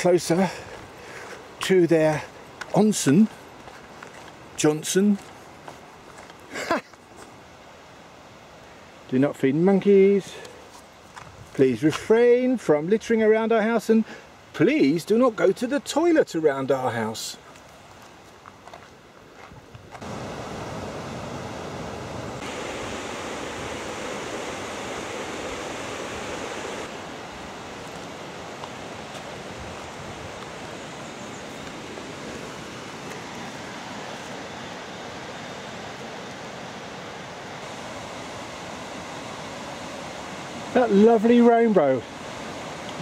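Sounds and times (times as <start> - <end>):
mountain river water rushing: 0.0 - 18.2, 20.0 - 43.0.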